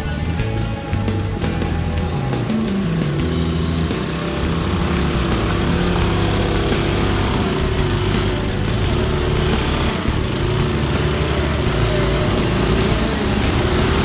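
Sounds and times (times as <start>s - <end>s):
riding lawn mower engine running: 0.0s - 14.0s.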